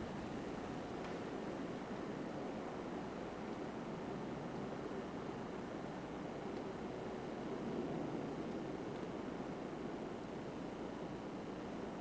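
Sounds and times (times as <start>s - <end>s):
low rumbling hiss: 0.0s - 12.0s.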